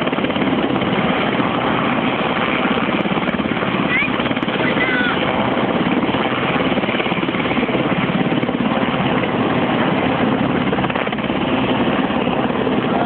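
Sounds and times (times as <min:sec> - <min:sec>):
helicopter hovering: 0:00.0 - 0:13.0.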